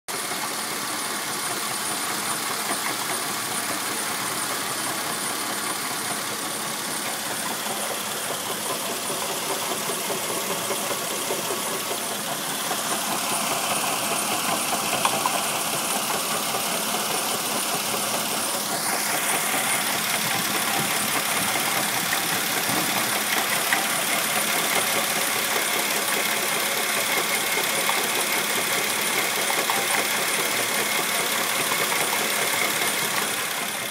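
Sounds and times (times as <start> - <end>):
car engine running: 0.1 - 33.9.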